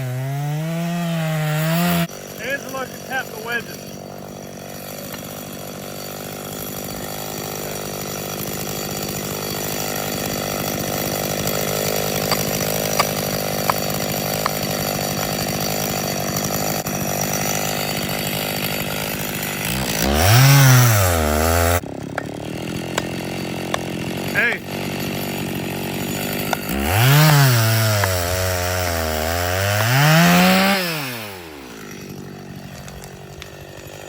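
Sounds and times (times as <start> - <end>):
chainsaw cutting: 0.0 - 34.0.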